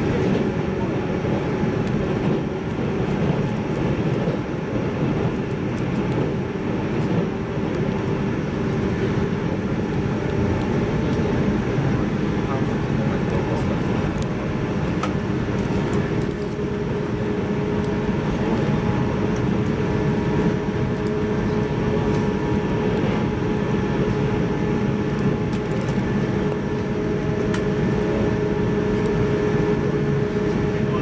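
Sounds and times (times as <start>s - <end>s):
constant hum: 0.0s - 31.0s
electric train rumbling: 0.0s - 31.0s.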